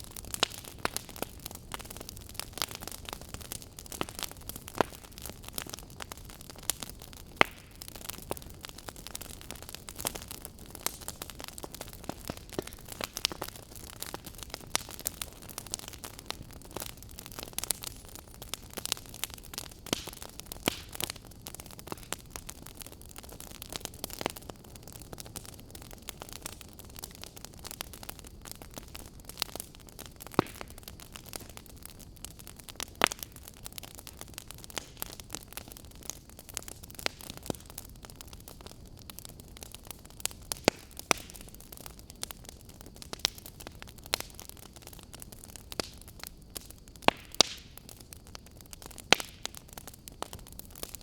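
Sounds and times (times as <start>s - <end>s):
fire crackling and popping: 0.0s - 51.0s
soft fire hiss: 0.0s - 51.0s.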